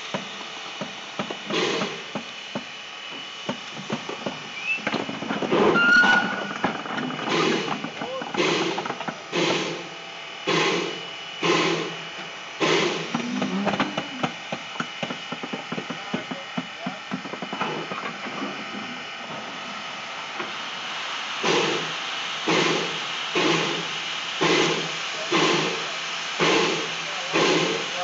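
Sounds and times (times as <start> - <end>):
train cars clanking and rattling: 0.0 - 20.6, 21.4 - 28.0
steam locomotive chuffing: 0.0 - 28.0.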